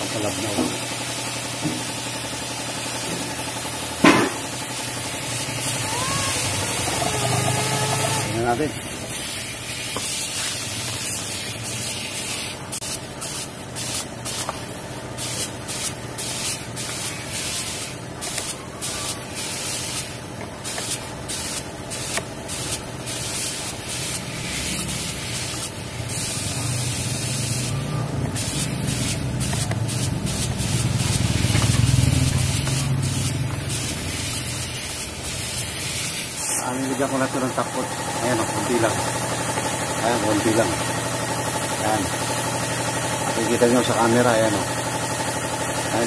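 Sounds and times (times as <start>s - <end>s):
spray gun hissing: 0.0s - 44.2s.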